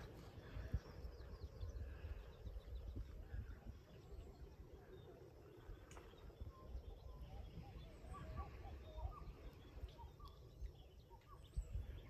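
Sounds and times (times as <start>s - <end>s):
bird twittering chirps: 0.0s - 12.0s.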